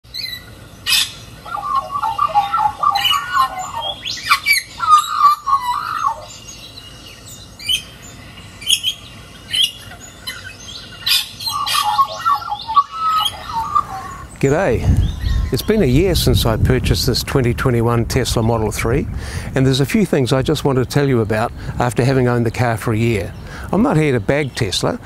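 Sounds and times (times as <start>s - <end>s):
birds chirping and squawking: 0.0s - 25.0s
birds warbling song: 0.0s - 25.0s.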